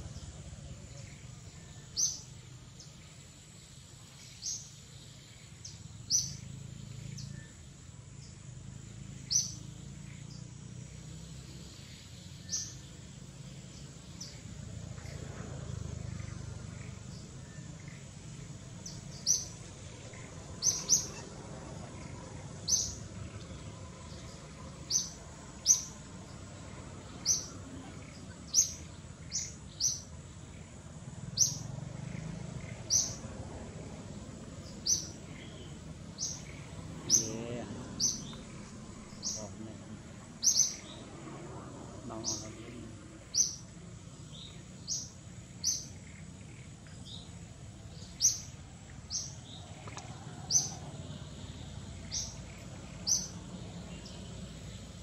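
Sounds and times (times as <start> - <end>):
small bird chirping: 0.0 - 41.2, 42.0 - 55.0
low background rumble: 0.0 - 55.0.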